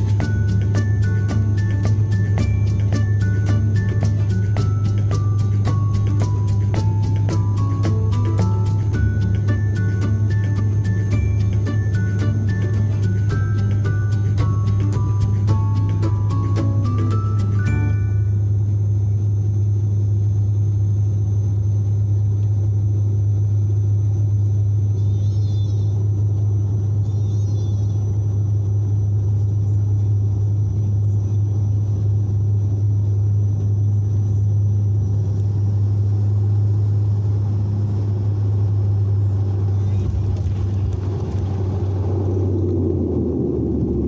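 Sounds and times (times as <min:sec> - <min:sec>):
faint high whine: 0:00.0 - 0:44.0
turboprop propeller drone: 0:00.0 - 0:44.0.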